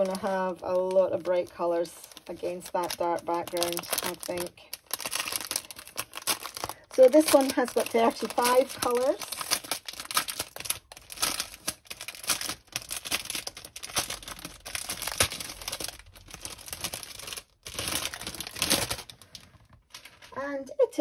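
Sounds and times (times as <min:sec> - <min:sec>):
plastic packaging crinkling: 0:00.0 - 0:20.4.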